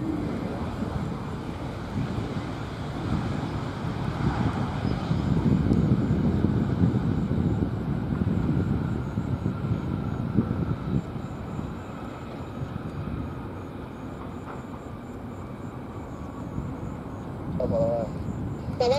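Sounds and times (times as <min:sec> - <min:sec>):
distant jet engine rumble: 0:00.0 - 0:18.9
faint steady whine: 0:00.0 - 0:18.9.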